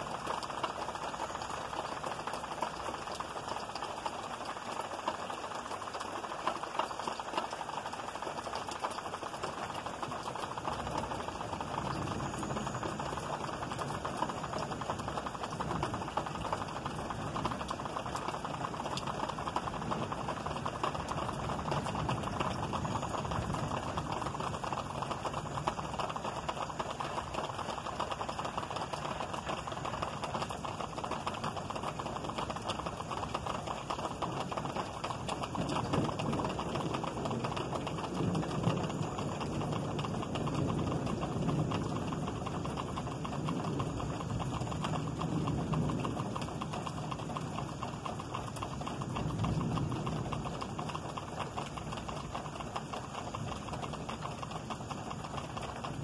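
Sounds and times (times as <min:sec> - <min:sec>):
steady rain: 0:00.0 - 0:56.0
low thunder rumble: 0:09.1 - 0:56.0.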